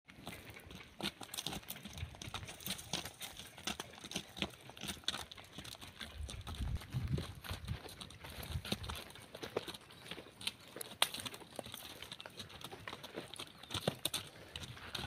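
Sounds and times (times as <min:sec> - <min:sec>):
hooves crunching on dry dirt: 0:00.1 - 0:15.0.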